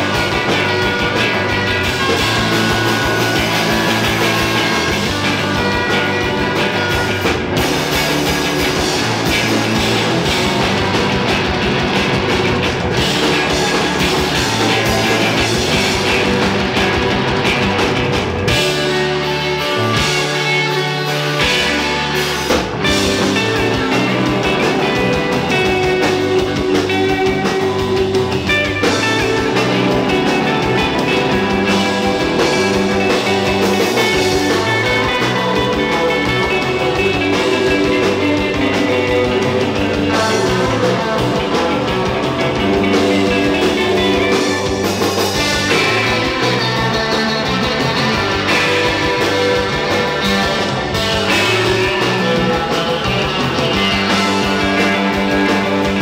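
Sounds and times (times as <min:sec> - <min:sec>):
drum kit: 0:00.0 - 0:56.0
live rock band playing: 0:00.0 - 0:56.0.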